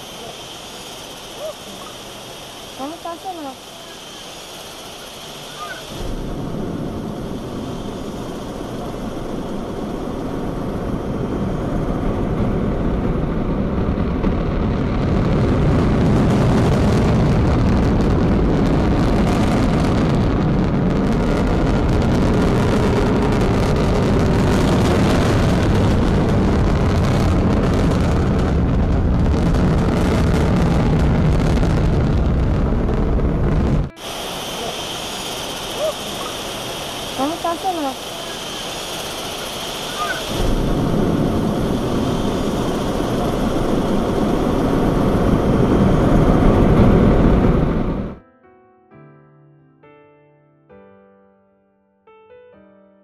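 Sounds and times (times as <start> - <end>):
rocket engines rumbling: 0.0 - 48.2.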